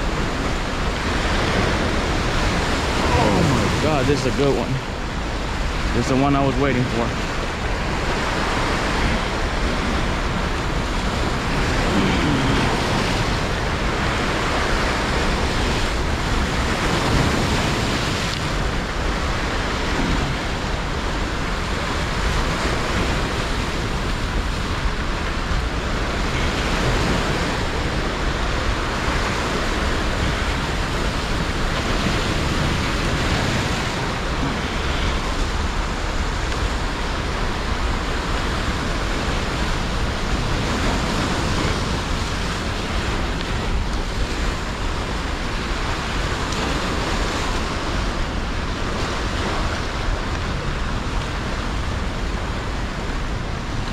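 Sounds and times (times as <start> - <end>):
whitewater roaring over rocks: 0.0 - 53.9.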